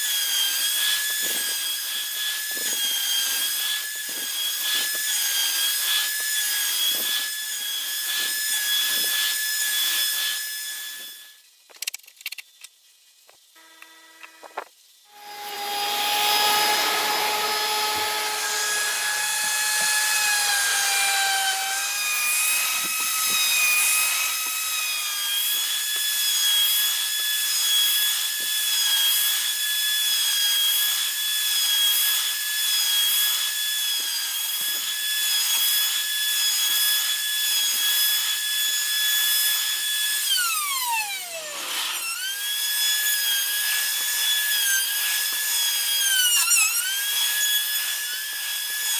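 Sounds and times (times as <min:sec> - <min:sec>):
router bit rasping in wood: 0:00.0 - 0:11.2, 0:13.6 - 0:48.9
wood router whining: 0:00.0 - 0:11.5, 0:13.5 - 0:48.9.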